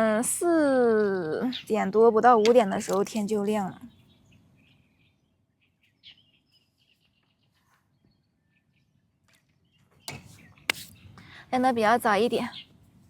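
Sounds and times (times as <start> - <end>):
faint bird chirps: 1.1 - 2.8, 3.5 - 12.9.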